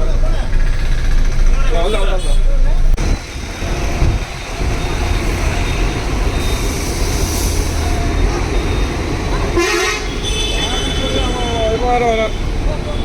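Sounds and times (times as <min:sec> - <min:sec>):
heavy vehicle engines rumbling: 0:00.0 - 0:13.0
traffic noise: 0:00.0 - 0:13.0.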